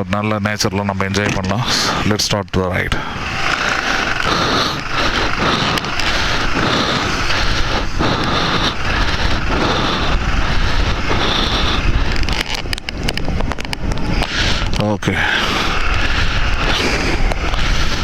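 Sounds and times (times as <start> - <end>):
wind buffeting microphone: 0.0 - 18.0
motorcycle engine running: 2.7 - 18.0.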